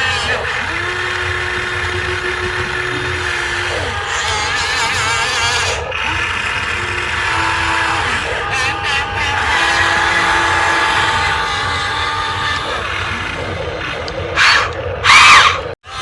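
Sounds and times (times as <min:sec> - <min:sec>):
small electric motors whirring: 0:00.0 - 0:13.5.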